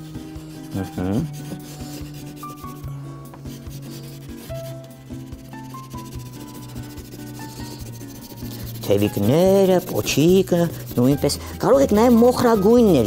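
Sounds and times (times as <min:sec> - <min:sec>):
soft background music: 0:00.0 - 0:13.0
wax crayon rubbing on paper: 0:00.0 - 0:13.0.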